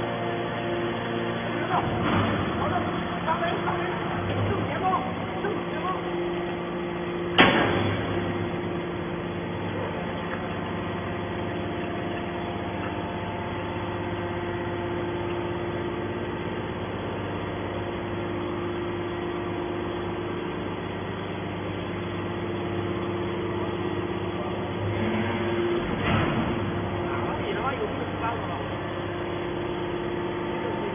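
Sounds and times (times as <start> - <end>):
baler machinery humming: 0.0 - 30.9.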